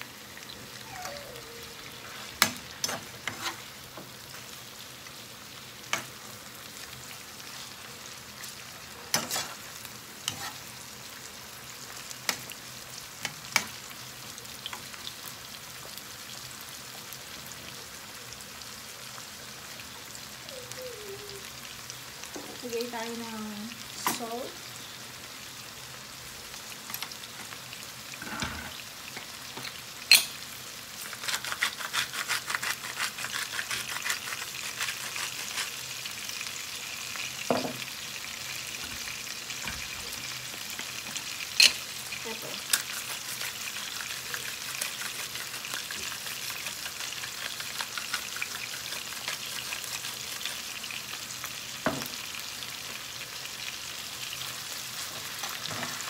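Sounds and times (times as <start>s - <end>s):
ribs sizzling in a pan: 0.0s - 56.0s.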